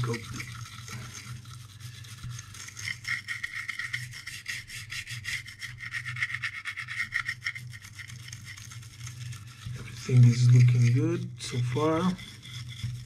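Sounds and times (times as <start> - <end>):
toothbrush scrubbing circuit board: 0.0 - 13.0.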